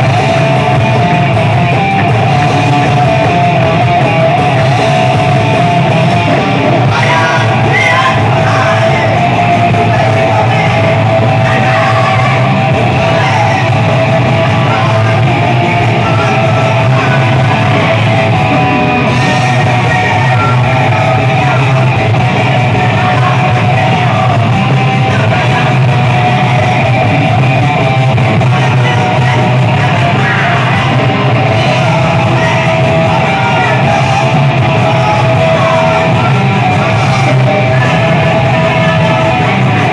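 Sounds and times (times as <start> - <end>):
distorted electric guitar: 0.0 - 39.9
drums: 0.0 - 39.9.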